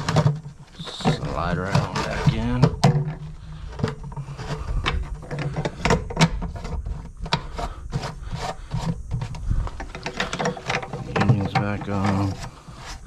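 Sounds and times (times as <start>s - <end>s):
clicks taps and scraping: 0.0s - 13.0s.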